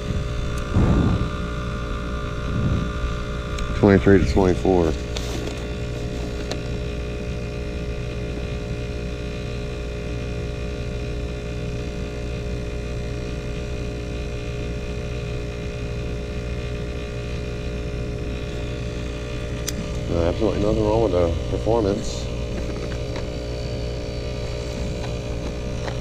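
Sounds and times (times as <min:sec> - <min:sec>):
heat pump humming: 0:00.0 - 0:26.0.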